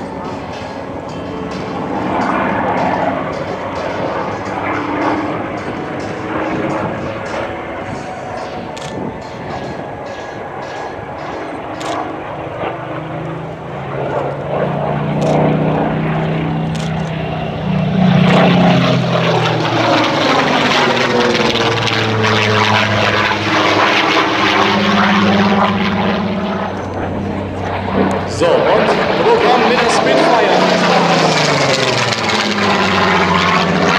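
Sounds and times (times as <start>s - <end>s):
propeller plane engine passing: 0.0s - 33.9s.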